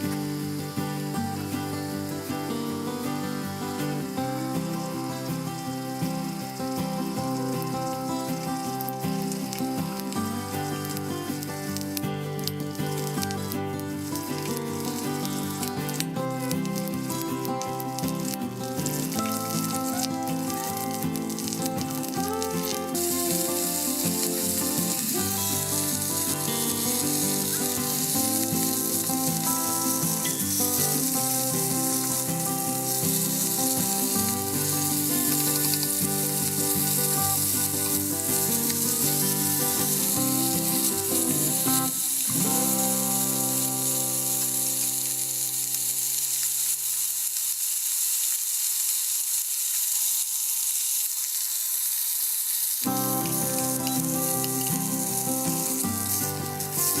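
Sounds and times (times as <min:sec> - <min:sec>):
background music: 0:00.0 - 0:46.2, 0:52.9 - 0:57.0
fish sizzling in oil: 0:00.0 - 0:57.0.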